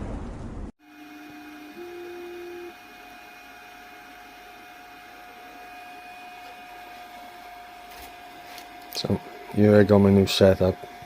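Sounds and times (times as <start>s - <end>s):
steady hum: 0.0s - 11.0s
printer motor tone: 0.8s - 11.0s.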